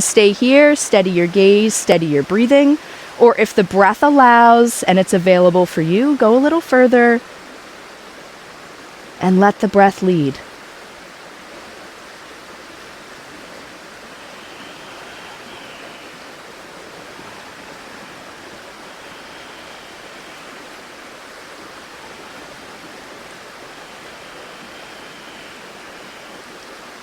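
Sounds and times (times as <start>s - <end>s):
river rushing: 0.0s - 27.0s.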